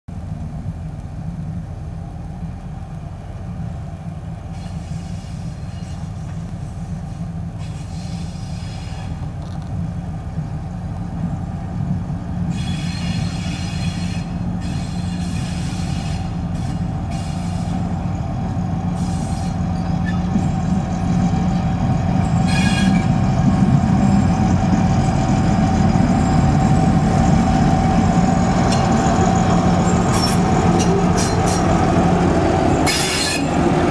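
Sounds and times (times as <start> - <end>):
diesel locomotive engine whining: 0.1 - 33.9.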